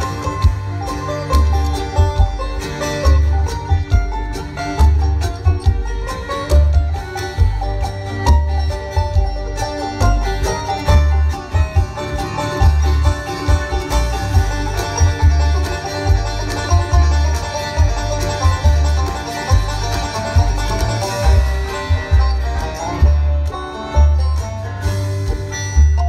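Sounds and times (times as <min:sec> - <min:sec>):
bluegrass band playing: 0:00.0 - 0:26.0
boomy bass line: 0:00.0 - 0:26.0.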